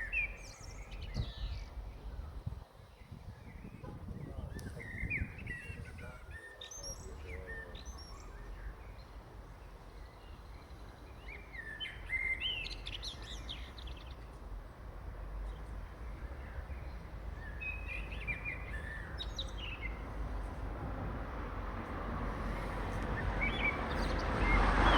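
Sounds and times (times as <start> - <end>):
songbirds chirping and singing: 0.0 - 24.9.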